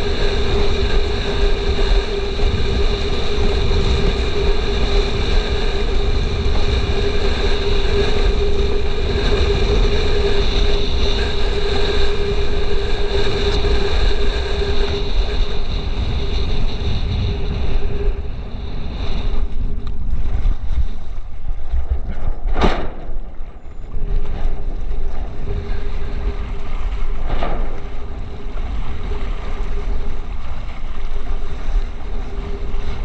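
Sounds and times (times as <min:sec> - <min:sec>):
steady hum: 0:00.0 - 0:33.0
water rushing under a board: 0:00.0 - 0:33.0
wind buffeting on microphone: 0:00.0 - 0:33.0.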